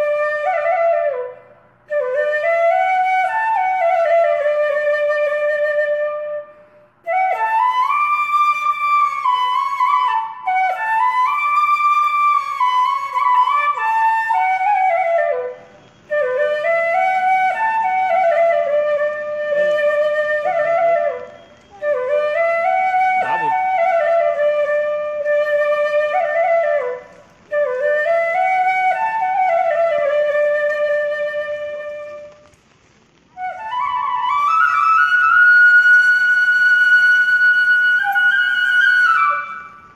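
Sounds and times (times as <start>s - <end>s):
slow flute-like solo melody: 0.0s - 32.6s, 33.3s - 39.9s.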